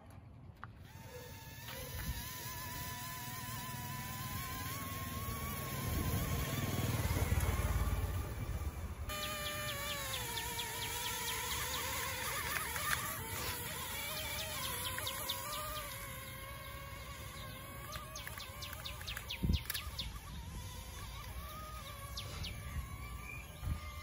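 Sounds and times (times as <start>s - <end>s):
toy drone propellers buzzing: 0.6s - 24.0s.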